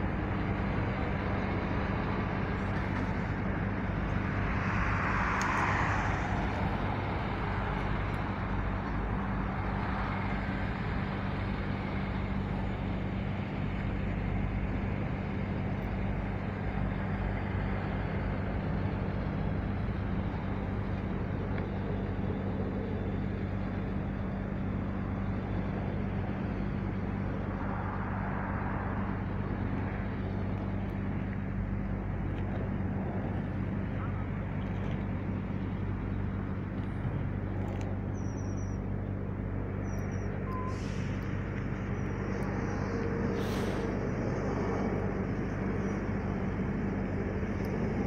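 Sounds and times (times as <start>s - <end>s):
low engine hum: 0.0s - 48.0s
road traffic: 0.0s - 48.0s
vehicles passing: 0.0s - 48.0s.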